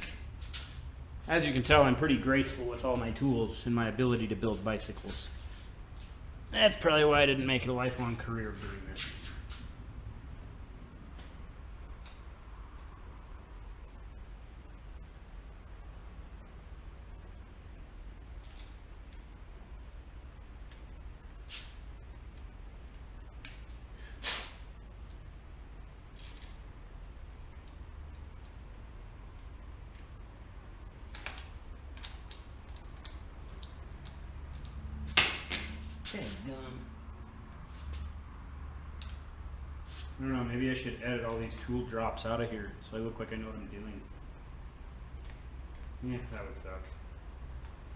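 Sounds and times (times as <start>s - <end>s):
cricket chirping: 0.0s - 47.9s.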